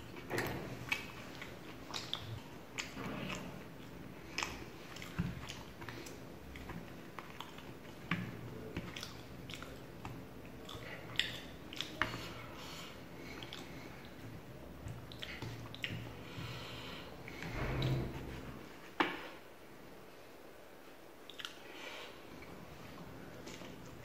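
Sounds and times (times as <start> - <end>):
person chewing food: 0.0 - 17.7, 21.2 - 24.0.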